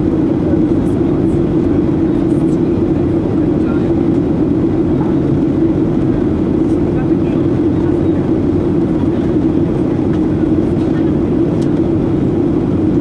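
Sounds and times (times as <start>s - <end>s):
jet engine drone: 0.0s - 13.0s
low cabin hum: 0.0s - 13.0s.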